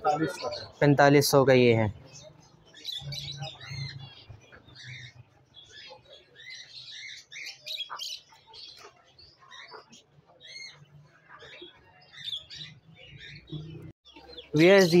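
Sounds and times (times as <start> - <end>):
small birds chirping: 0.0 - 15.0
bird trill: 2.0 - 15.0.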